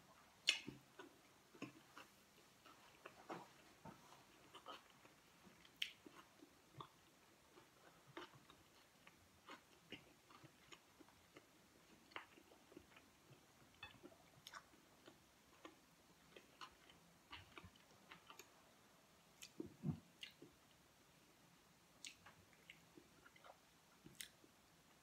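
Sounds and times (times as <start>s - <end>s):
person chewing: 0.4s - 3.6s, 4.2s - 18.6s, 19.4s - 20.7s, 22.0s - 24.5s.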